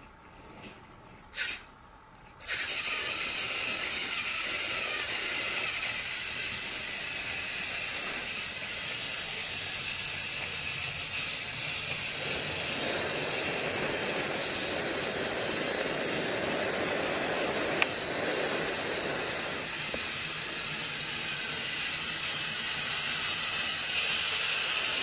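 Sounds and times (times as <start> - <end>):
loud steady hissing rush: 0.0 - 25.0.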